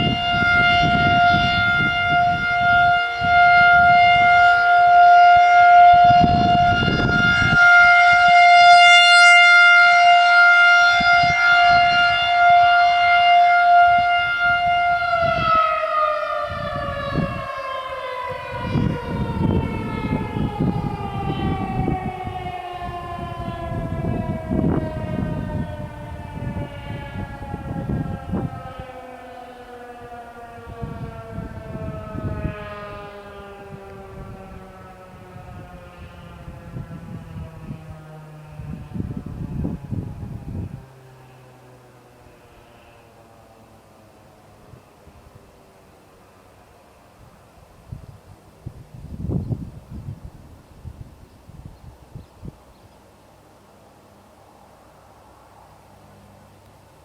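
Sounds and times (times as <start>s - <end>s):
mechanical warning siren: 0.0s - 48.0s.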